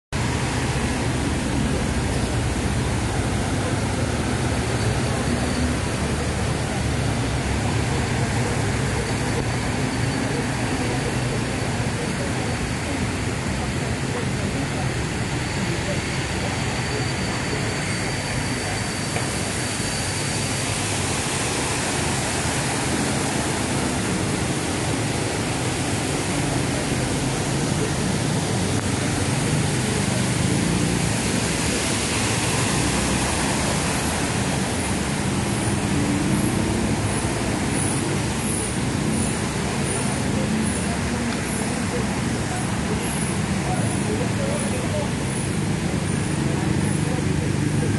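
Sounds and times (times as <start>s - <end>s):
motor traffic: 0.1s - 47.9s
rushing floodwater: 0.2s - 47.9s.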